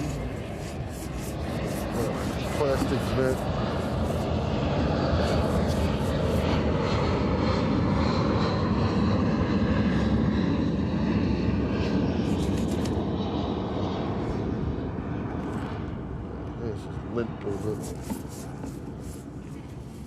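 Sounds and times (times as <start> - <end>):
steady engine drone: 0.0 - 20.0.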